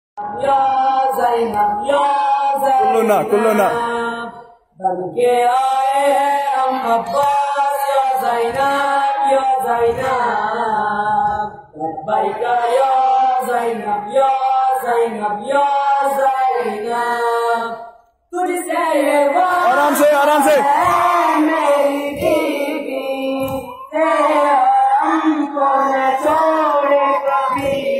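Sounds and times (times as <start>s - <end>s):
boy chanting into microphone: 0.2s - 17.8s, 18.4s - 27.9s.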